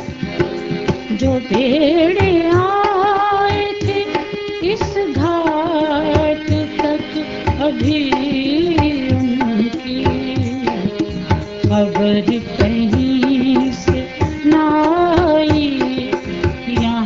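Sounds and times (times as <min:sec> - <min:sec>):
stringed instrument melody: 0:00.0 - 0:17.0
tabla rhythm: 0:00.0 - 0:17.0.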